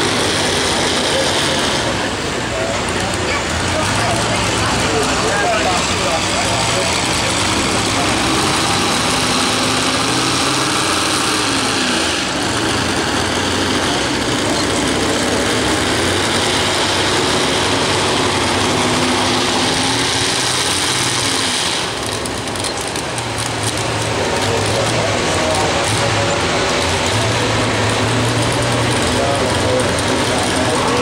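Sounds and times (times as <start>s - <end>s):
truck engine idling loudly: 0.0s - 31.0s.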